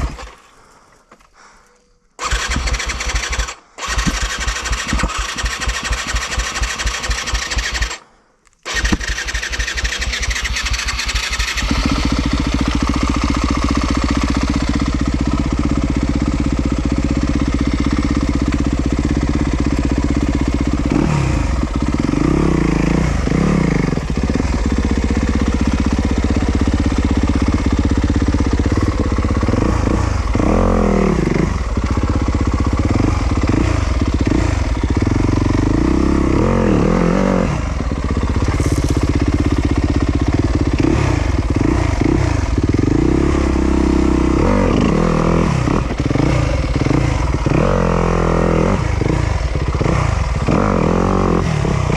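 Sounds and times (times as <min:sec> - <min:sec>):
dirt bike engine revving: 0:02.2 - 0:08.0, 0:08.7 - 0:51.9.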